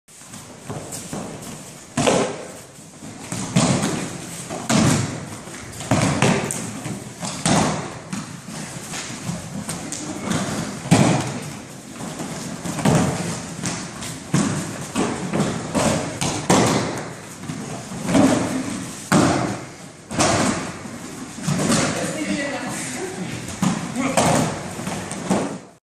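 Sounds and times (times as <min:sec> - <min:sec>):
bodies thudding on floor mats: 0:00.3 - 0:22.1.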